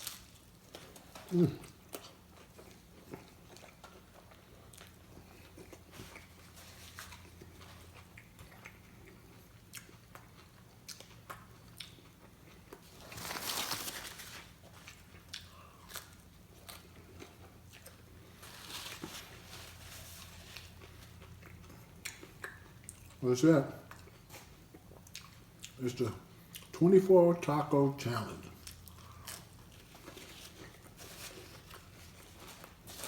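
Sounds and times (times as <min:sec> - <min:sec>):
person chewing crunchy food: 0:00.0 - 0:13.2, 0:14.4 - 0:23.2, 0:23.8 - 0:26.8, 0:28.4 - 0:33.0.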